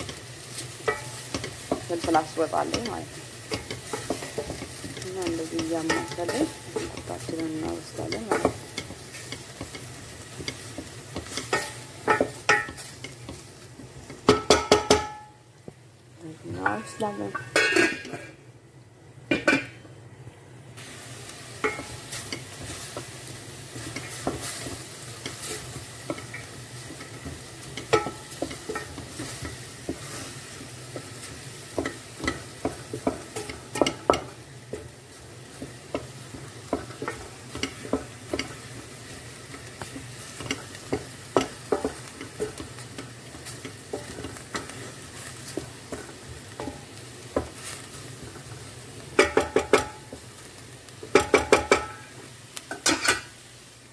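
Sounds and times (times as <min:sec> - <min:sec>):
onions sizzling: 0:00.0 - 0:53.9.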